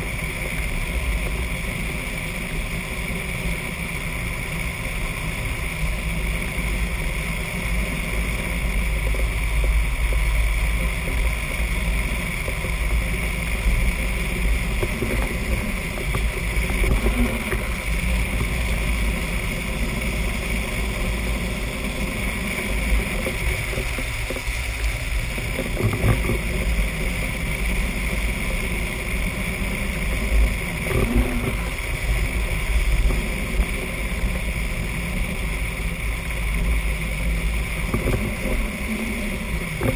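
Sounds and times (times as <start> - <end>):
wheels rolling on asphalt: 0.0 - 39.9
wind rumble on microphone: 0.0 - 39.9.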